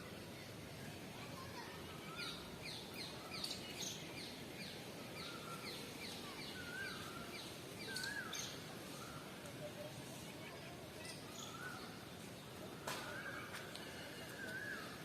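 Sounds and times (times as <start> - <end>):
background noise: 0.0 - 15.0.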